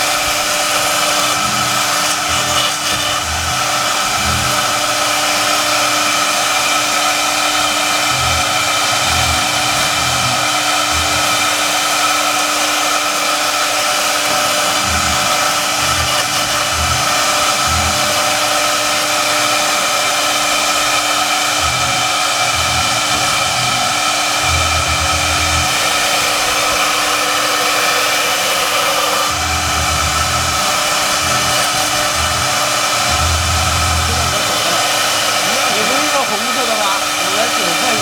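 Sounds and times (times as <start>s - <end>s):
router spindle whining: 0.0s - 38.0s.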